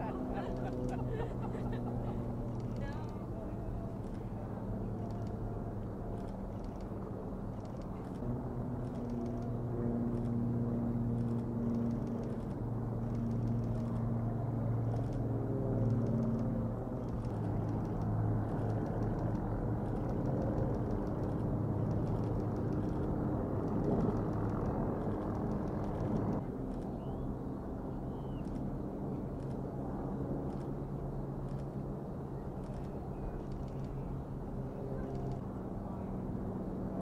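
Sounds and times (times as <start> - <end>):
jet engines droning: 0.0 - 37.0.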